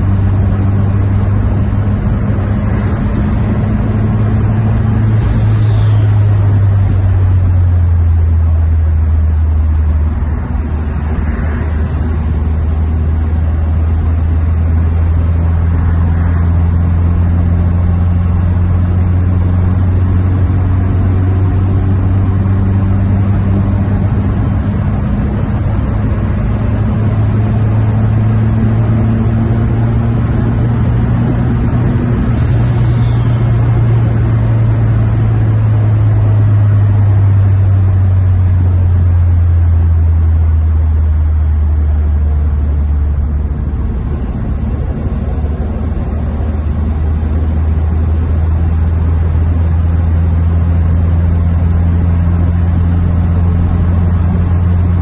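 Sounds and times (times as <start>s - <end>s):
car engine drone from inside: 0.0s - 55.0s.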